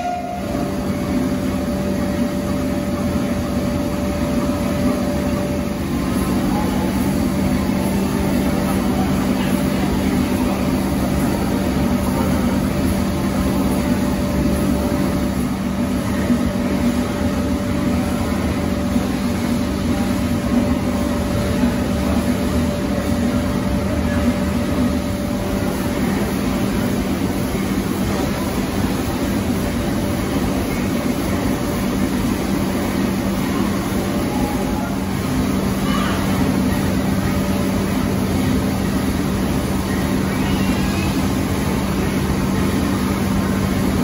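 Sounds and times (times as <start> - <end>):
engine humming steadily: 0.0 - 44.0.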